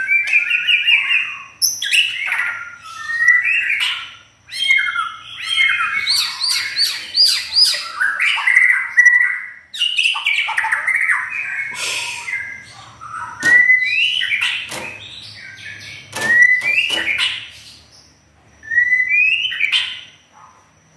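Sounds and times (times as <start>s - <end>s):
bird singing whistled phrases: 0.0s - 17.5s, 18.6s - 20.2s.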